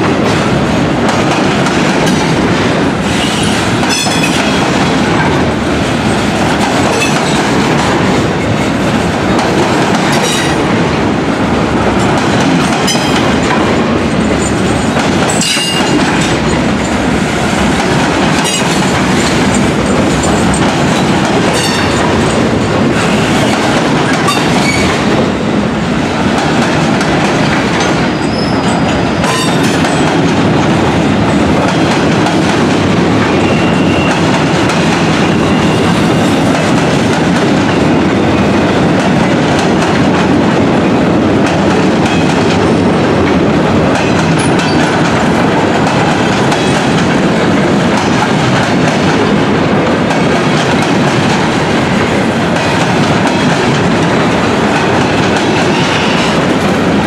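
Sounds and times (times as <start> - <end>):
steel wheels on rail: 0.0 - 57.0.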